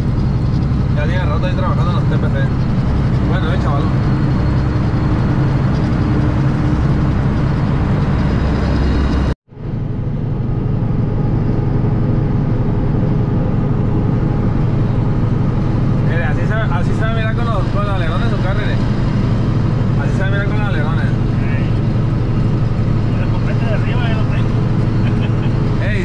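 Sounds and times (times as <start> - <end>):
road noise inside cab: 0.0 - 26.0
truck engine drone: 0.0 - 26.0.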